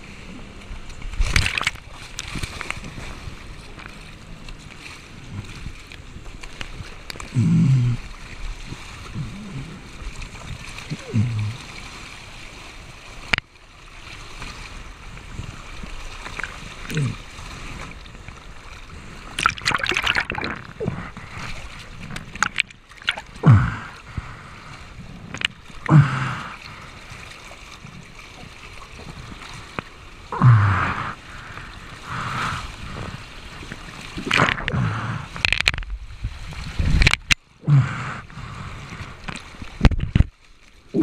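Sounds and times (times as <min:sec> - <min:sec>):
rushing whitewater: 0:00.0 - 0:39.9
water splashing over camera: 0:00.0 - 0:41.0.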